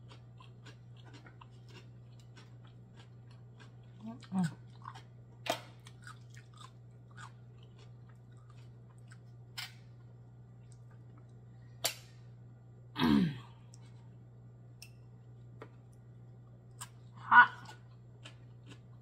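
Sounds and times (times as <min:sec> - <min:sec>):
soft chewing: 0:00.0 - 0:11.7, 0:13.6 - 0:14.2, 0:14.8 - 0:19.0.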